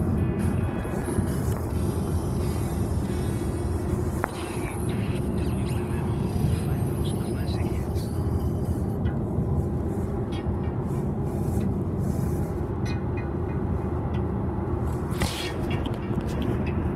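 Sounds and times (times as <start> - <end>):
vehicle rumble from inside cabin: 0.0 - 16.9.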